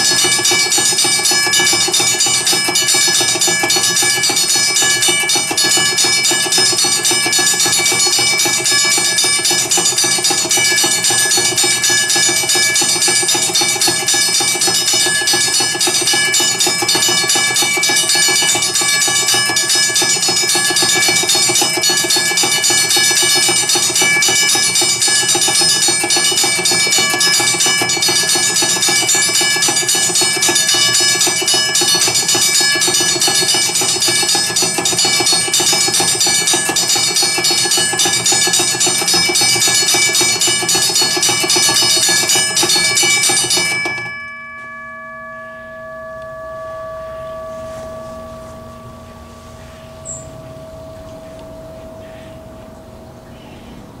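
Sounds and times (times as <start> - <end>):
crossing bell ringing rapidly: 0.0 - 54.0.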